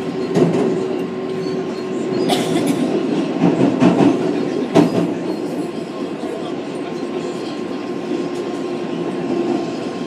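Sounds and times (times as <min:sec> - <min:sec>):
subway car rumbling: 0:00.0 - 0:10.0.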